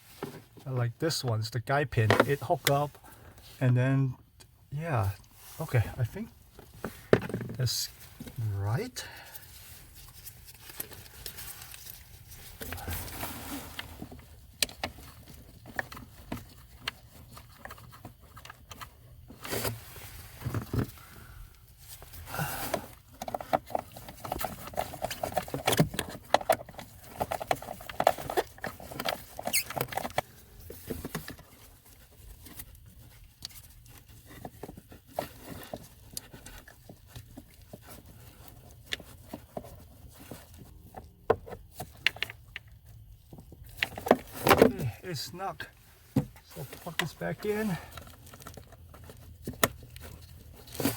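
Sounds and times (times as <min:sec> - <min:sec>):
plastic rubbing: 0:04.7 - 0:50.9.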